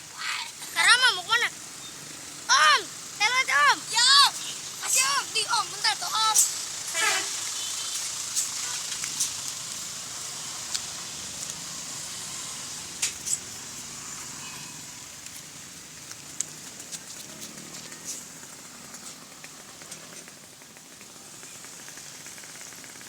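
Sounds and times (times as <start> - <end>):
passing vehicle road noise: 1.4 - 23.0.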